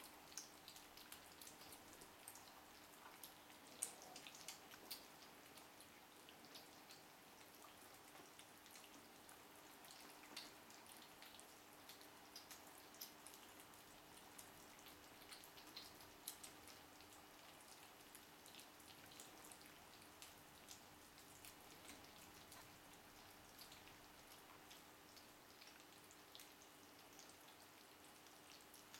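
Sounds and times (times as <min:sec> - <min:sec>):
faint steady hum: 0:00.0 - 0:28.9
kittens eating wet food: 0:00.0 - 0:28.9.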